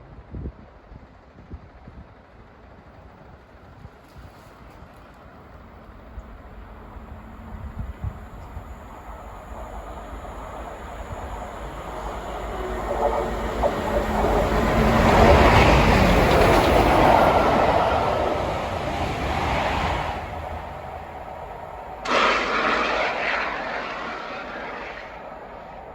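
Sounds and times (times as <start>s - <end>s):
steam locomotive rumbling past: 5.1s - 25.9s.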